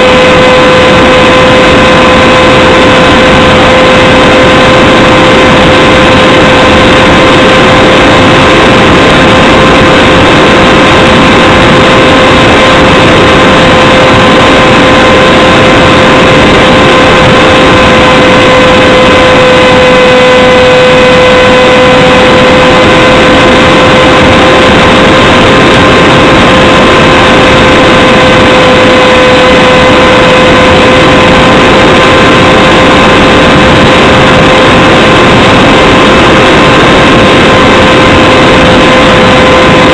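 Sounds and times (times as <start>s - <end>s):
electric motor and propeller whine: 0.0s - 39.9s
rushing airflow noise: 0.0s - 39.9s.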